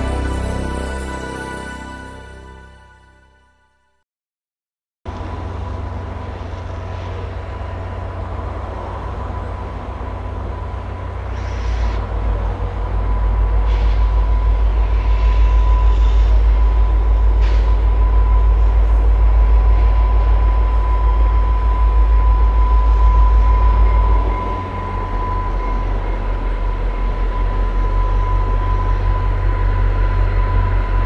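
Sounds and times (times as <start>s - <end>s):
diesel locomotives running: 0.0s - 3.2s, 5.1s - 31.0s.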